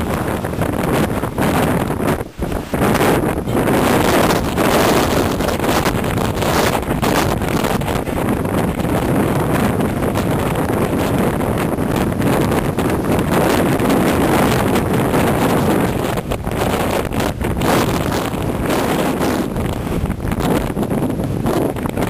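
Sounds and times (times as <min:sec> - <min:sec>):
sea surf: 0:00.0 - 0:22.0
storm wind buffeting microphone: 0:00.0 - 0:22.0.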